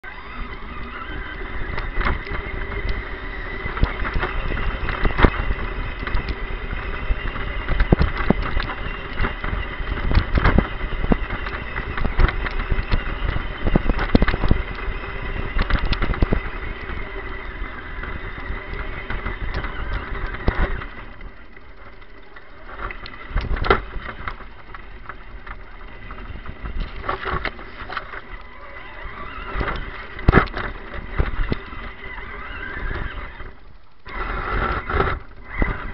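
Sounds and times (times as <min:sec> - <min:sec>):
rc truck motor whine: 0:00.0 - 0:35.9.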